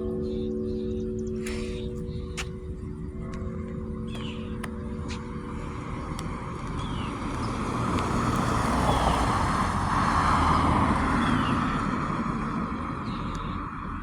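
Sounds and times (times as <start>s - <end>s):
car passing: 0.0s - 14.0s.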